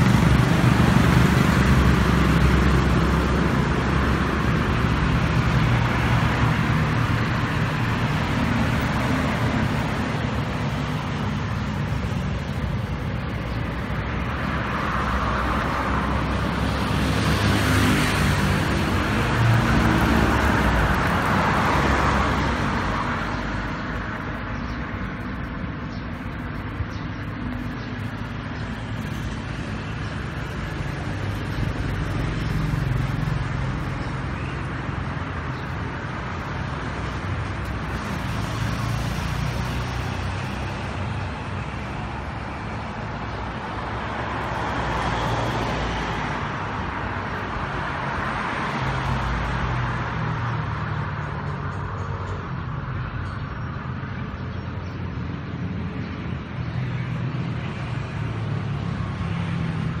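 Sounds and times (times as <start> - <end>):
rumble of passing vehicles: 0.0 - 60.0.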